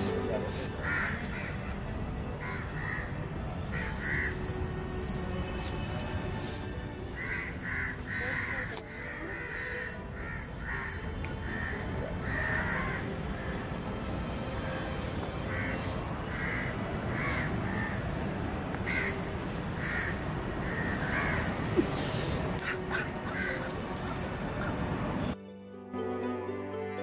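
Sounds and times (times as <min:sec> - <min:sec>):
steady background hiss: 0:00.0 - 0:25.4.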